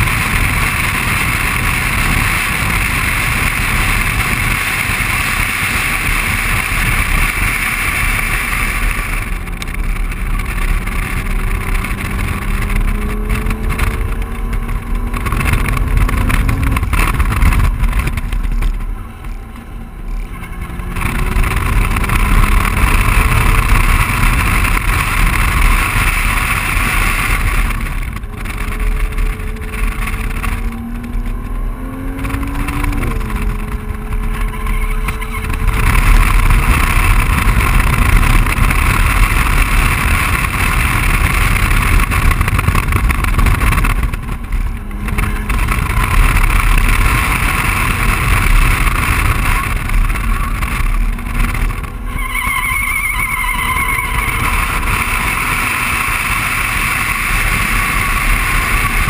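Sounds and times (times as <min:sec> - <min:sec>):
car engine accelerating: 0:00.0 - 0:59.0
wind and road noise: 0:00.0 - 0:59.0.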